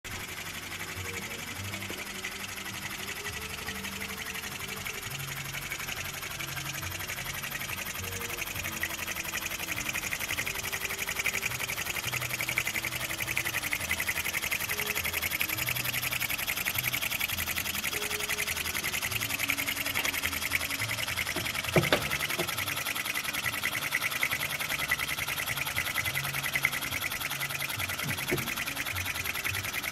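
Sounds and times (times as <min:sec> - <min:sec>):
model steam engine chuffing: 0:00.1 - 0:29.9.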